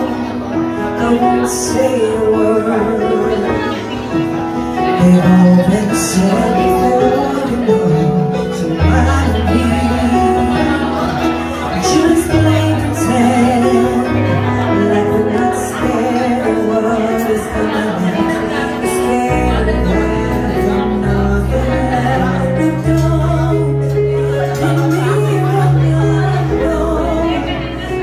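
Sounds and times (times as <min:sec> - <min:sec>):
keyboard playing chords: 0:00.0 - 0:28.0
woman singing a slow ballad: 0:00.0 - 0:28.0.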